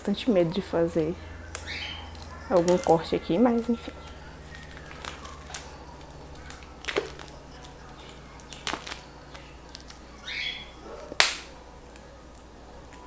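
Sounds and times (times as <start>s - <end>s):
plastic shrink-wrap crinkling: 1.4s - 13.0s.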